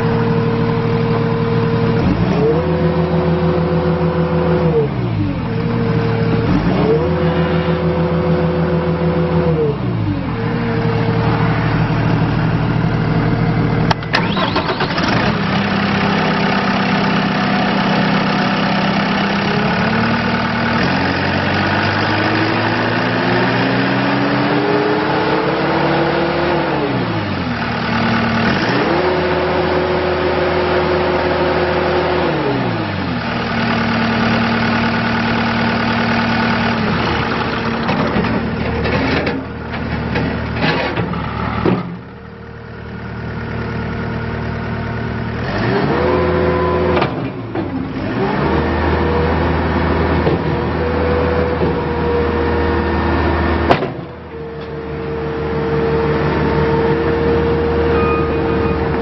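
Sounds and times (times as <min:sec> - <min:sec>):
diesel engine revving and idling: 0:00.0 - 0:59.0.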